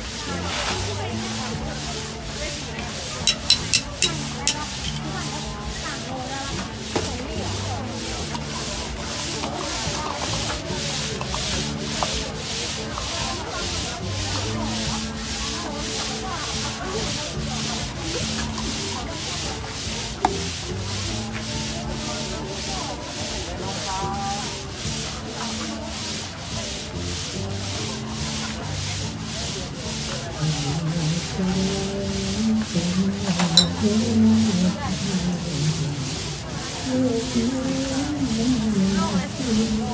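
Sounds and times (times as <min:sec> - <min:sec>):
slushie machine grinding ice: 0:00.0 - 0:39.9.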